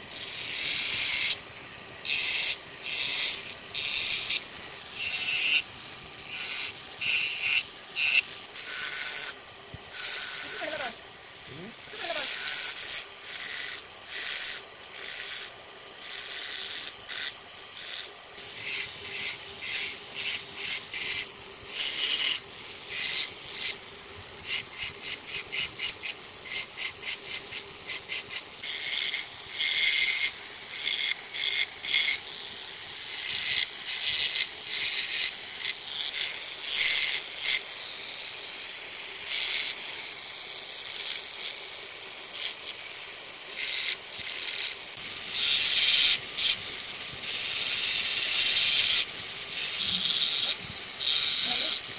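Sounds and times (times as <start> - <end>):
carving tool scratching wood: 0.0 - 51.9.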